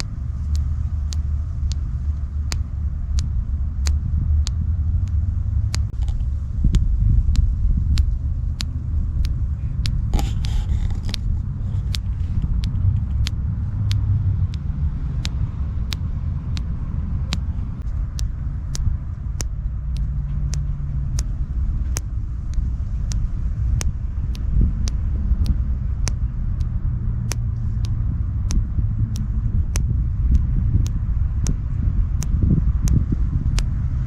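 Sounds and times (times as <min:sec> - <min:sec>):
low rumble: 0:00.0 - 0:34.0
thumb joint popping: 0:00.0 - 0:34.0.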